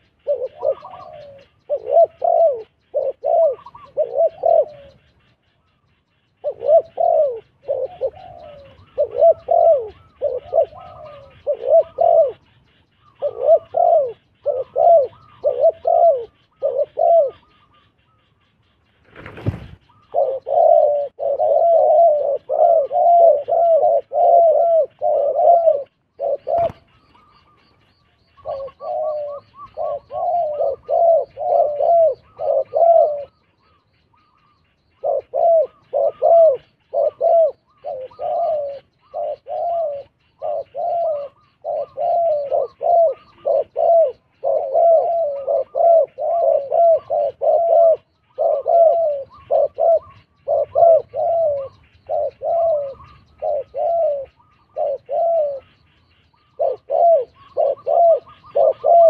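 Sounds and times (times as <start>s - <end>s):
doves cooing: 0.0s - 59.0s.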